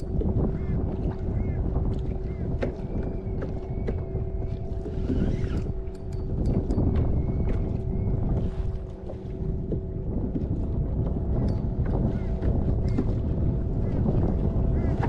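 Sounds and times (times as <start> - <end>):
water against kayak hull: 0.0 - 15.0
wind buffeting microphone: 0.0 - 15.0.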